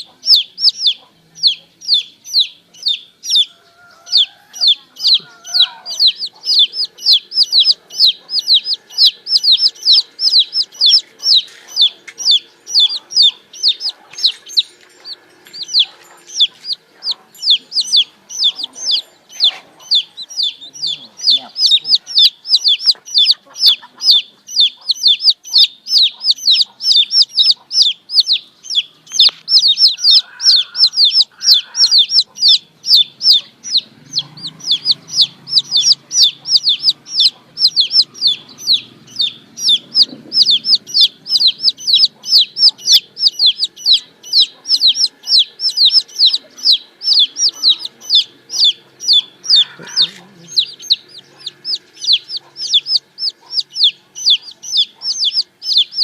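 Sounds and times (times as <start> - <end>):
baby chicks peeping: 0.0 - 56.0.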